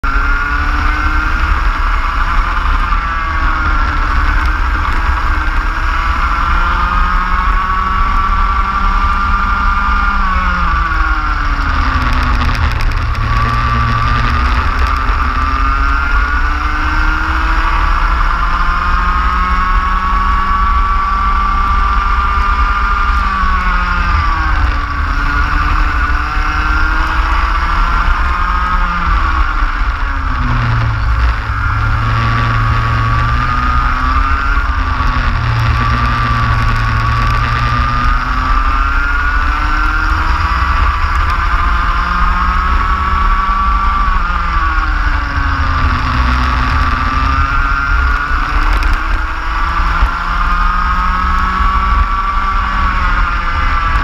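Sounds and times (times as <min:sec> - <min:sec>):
go-kart engine racing: 0:00.0 - 0:54.0
low rumble: 0:00.0 - 0:54.0.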